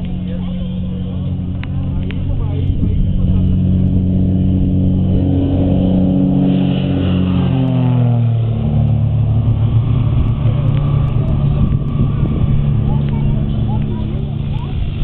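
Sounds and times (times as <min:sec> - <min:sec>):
propeller airplane passing by: 0:00.0 - 0:15.0.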